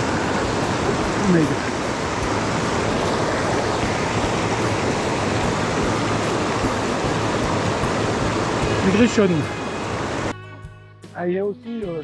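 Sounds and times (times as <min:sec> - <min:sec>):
stream rushing over rocks: 0:00.0 - 0:10.3.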